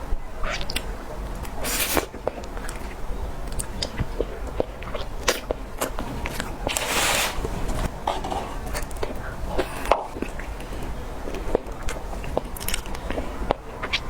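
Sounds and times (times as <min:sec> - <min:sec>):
chewing and mouth sounds: 0:00.4 - 0:06.8, 0:08.7 - 0:14.0.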